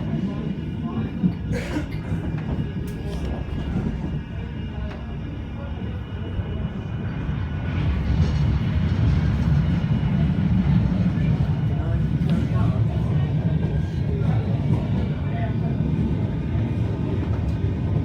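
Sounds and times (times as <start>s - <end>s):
tram wheels rumbling on rail: 0.0s - 18.0s.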